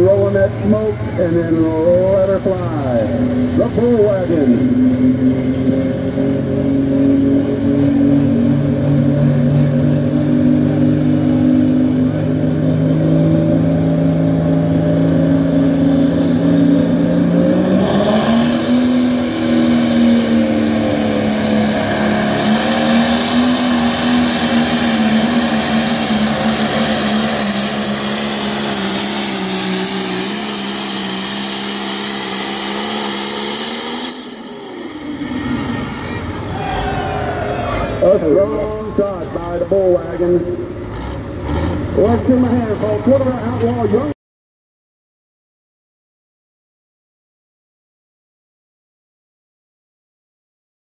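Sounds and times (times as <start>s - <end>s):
diesel tractor engine: 0.0s - 44.1s.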